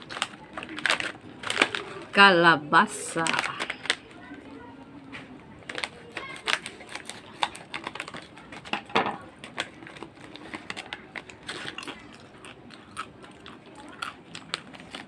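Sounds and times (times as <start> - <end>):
vegetable chips crunching: 0.0 - 2.3, 3.0 - 4.4, 5.6 - 15.0.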